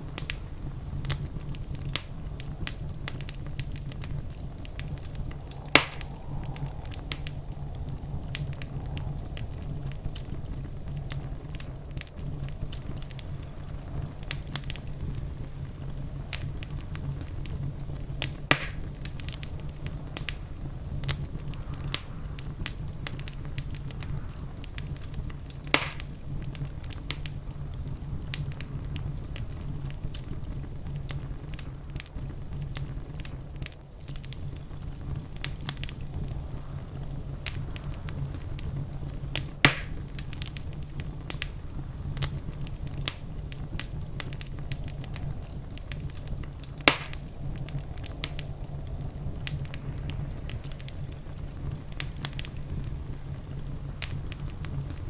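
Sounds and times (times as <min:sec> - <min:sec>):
fire snapping loudly: 0:00.0 - 0:55.0
wood fire crackling: 0:00.0 - 0:55.0.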